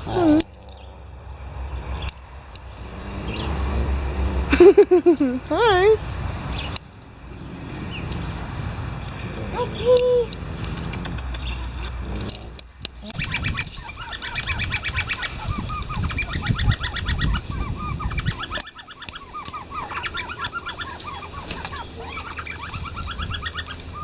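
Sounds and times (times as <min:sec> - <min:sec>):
chorus of honking animal calls: 0:00.0 - 0:04.8, 0:06.3 - 0:24.0.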